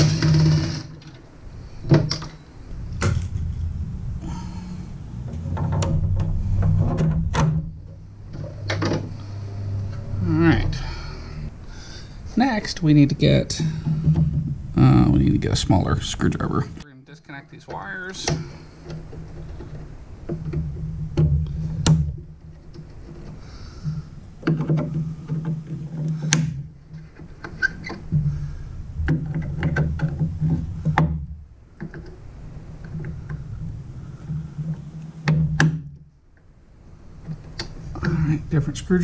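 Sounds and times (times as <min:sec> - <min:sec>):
low rumbling from handling: 0:00.0 - 0:16.9, 0:17.7 - 0:39.0.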